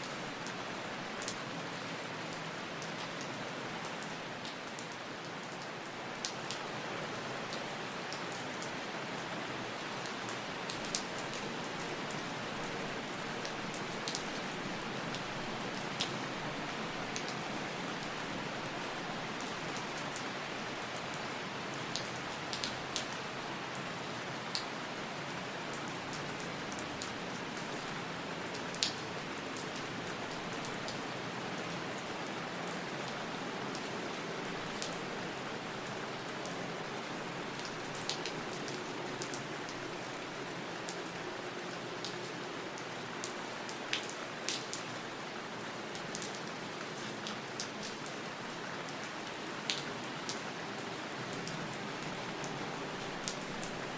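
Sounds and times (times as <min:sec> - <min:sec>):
raindrops pattering close by: 0:00.0 - 0:44.8, 0:45.4 - 0:53.9
steady rain falling: 0:00.0 - 0:53.9.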